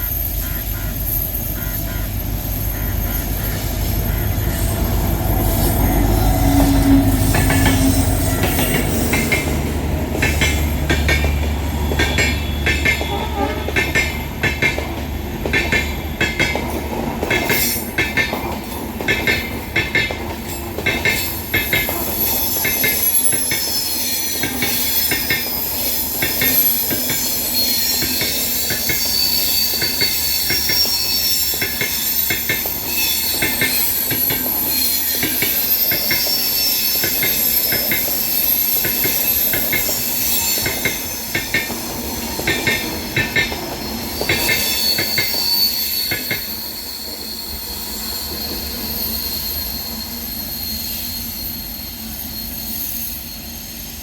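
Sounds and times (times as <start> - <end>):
train wheels clacking on rails: 0.0 - 47.3
train wheels squealing: 0.0 - 54.0.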